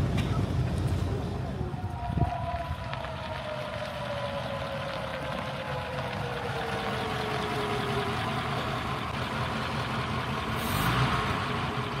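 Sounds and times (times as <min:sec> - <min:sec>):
car engine running slowly: 0:00.0 - 0:12.0
falling whine: 0:00.0 - 0:12.0.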